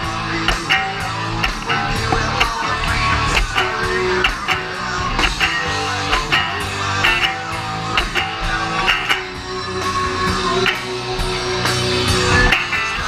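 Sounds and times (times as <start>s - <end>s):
electric guitar: 0.0s - 13.0s
steady drum beat: 0.0s - 13.0s.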